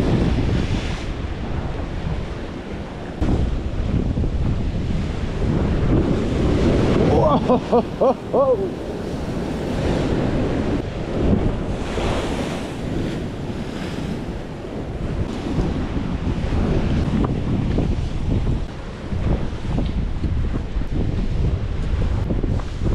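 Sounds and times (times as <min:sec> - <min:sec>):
surf breaking on rocks: 0:00.0 - 0:22.9
wind buffeting microphone: 0:00.0 - 0:22.9.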